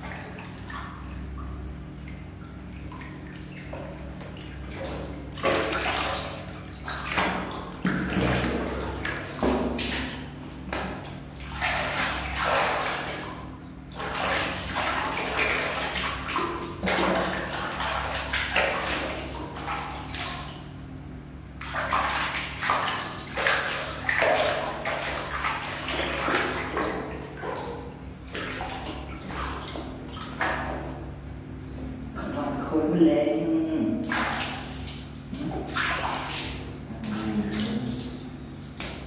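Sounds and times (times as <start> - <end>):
water sloshing in plastic basin: 0.0 - 39.0.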